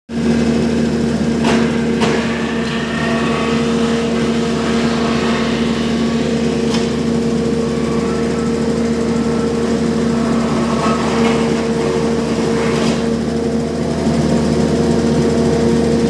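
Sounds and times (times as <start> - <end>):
machine humming drone: 0.1 - 16.0.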